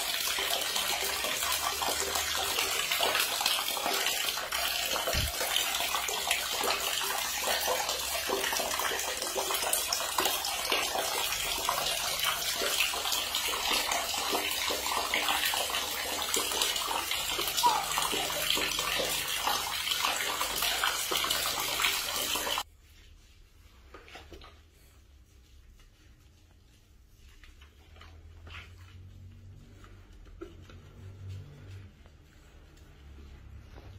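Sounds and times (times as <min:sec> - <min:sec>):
water running in a bathtub: 0:00.0 - 0:33.9.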